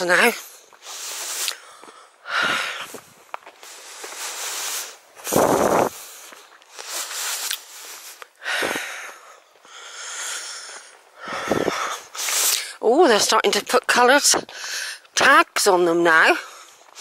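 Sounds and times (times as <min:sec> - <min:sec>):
woman breathing heavily: 0:00.3 - 0:12.8, 0:14.5 - 0:15.1, 0:16.4 - 0:17.0.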